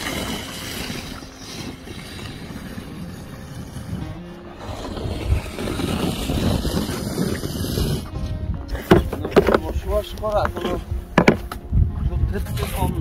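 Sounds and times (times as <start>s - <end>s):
gusty wind on microphone: 0.0s - 13.0s.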